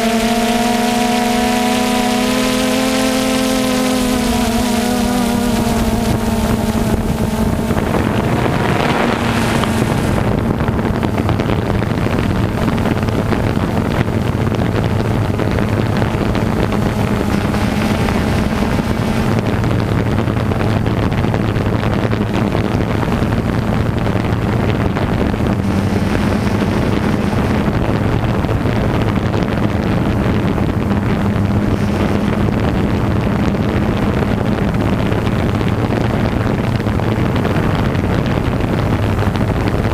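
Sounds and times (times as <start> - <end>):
engine hum: 0.0 - 39.9
wind noise on microphone: 0.0 - 39.9.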